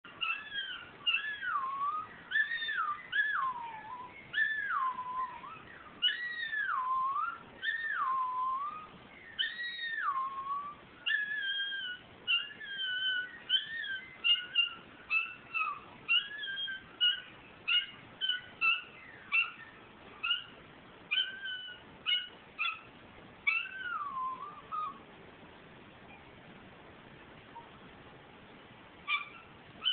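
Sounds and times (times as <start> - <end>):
dog howling and yipping: 0.1 - 25.1, 29.0 - 29.9.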